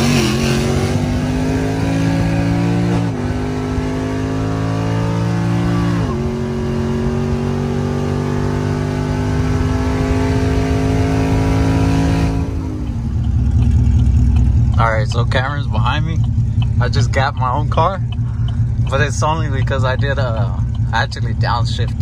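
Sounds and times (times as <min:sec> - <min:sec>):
car engine revving at full throttle: 0:00.0 - 0:22.0.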